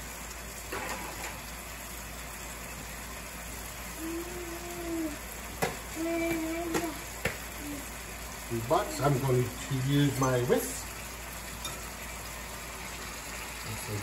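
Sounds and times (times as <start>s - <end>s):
gravy bubbling in skillet: 0.0s - 14.0s.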